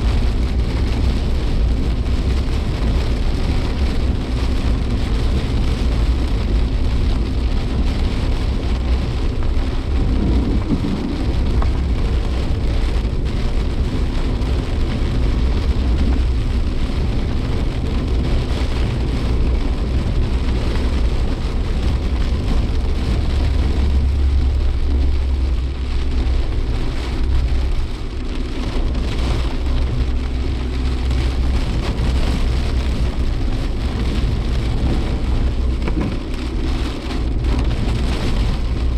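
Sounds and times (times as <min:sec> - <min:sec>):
engine and road noise: 0:00.0 - 0:38.9
heavy rain beating on a car: 0:00.0 - 0:38.9.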